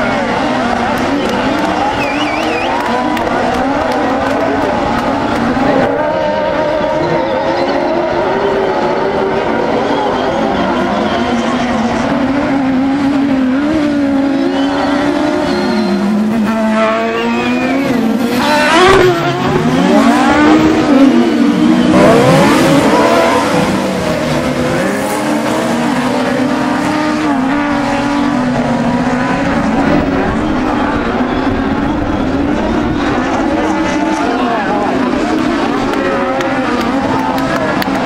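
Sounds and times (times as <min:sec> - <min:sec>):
racing buggy engines droning: 0:00.0 - 0:38.0.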